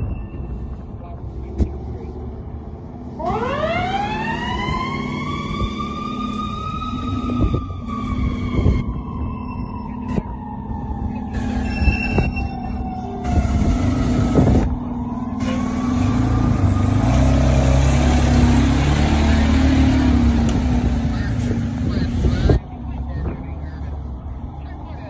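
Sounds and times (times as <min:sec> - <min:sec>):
fire truck engine: 0:00.0 - 0:25.0
fire engine siren wailing: 0:02.8 - 0:25.0.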